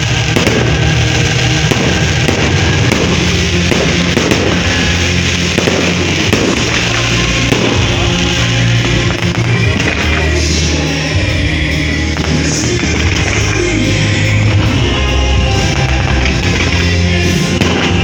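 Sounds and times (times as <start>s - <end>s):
fireworks bangs and crackling: 0.0s - 18.0s
music playing: 0.0s - 18.0s.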